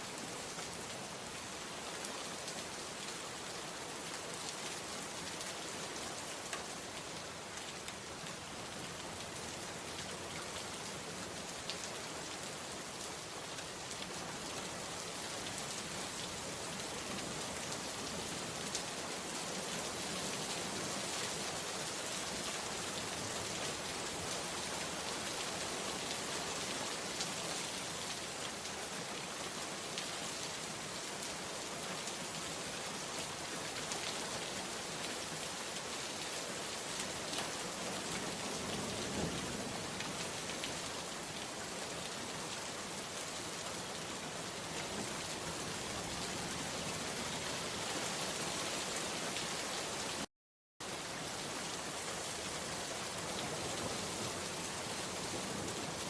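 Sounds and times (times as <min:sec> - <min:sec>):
dense rain pattering: 0:00.1 - 0:56.0.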